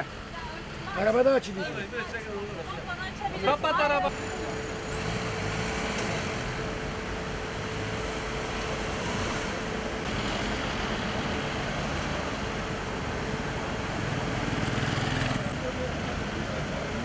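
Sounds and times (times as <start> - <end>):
cars driving slowly past: 0.0 - 17.0.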